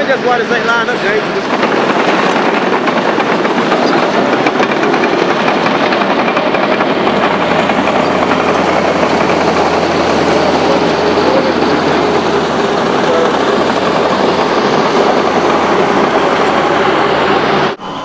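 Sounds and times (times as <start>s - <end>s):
heavy machinery clattering: 0.7s - 17.6s.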